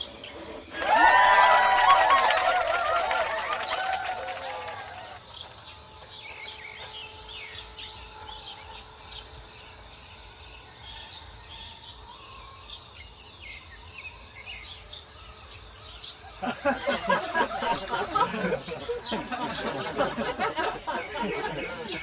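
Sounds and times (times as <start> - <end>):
birds chirping: 0.0 - 22.0
outdoor background noise: 0.0 - 22.0.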